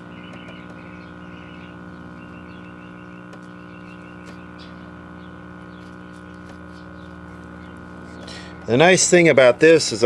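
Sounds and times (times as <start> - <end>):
radio electrical hum: 0.0 - 10.0.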